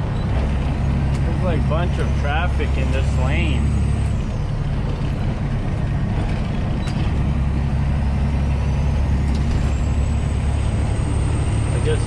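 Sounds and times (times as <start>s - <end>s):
truck diesel engine and road noise: 0.0s - 12.0s.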